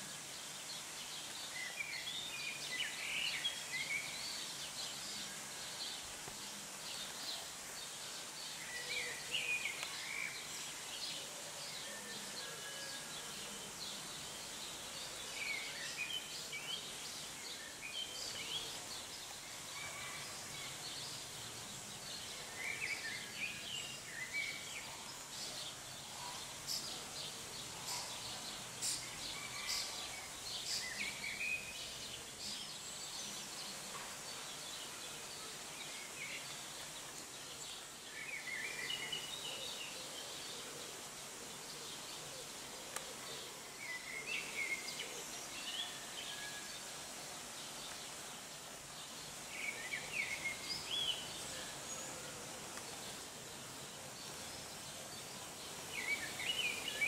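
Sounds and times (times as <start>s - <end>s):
outdoor background noise: 0.0s - 57.0s
songbirds chirping: 0.0s - 57.0s.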